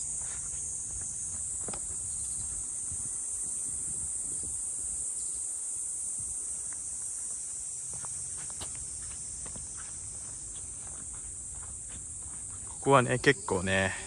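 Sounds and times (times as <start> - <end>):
insects chirping shrilly: 0.0 - 14.0.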